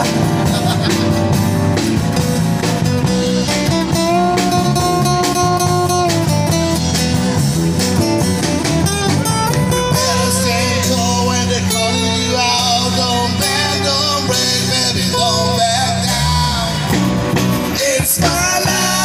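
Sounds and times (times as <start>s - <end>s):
drum kit: 0.0s - 19.0s
strummed acoustic guitars: 0.0s - 19.0s.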